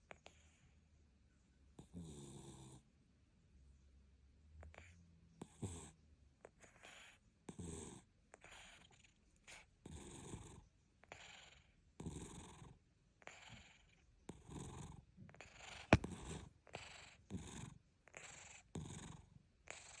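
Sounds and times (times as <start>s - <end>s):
cat snoring: 0.1s - 0.8s, 1.8s - 2.9s, 4.6s - 20.0s.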